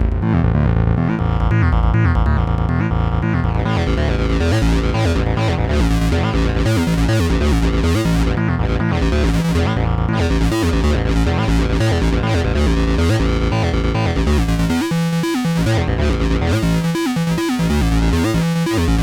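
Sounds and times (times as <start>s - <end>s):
synthesizer bass line: 0.0s - 19.0s.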